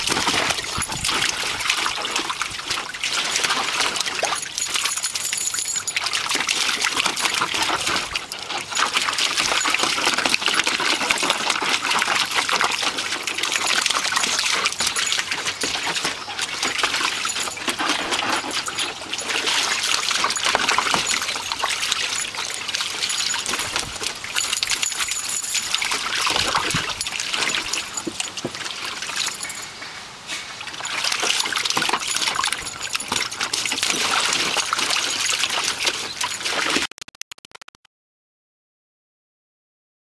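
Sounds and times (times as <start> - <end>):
puppy splashing in water: 0.0 - 29.7, 30.4 - 37.0.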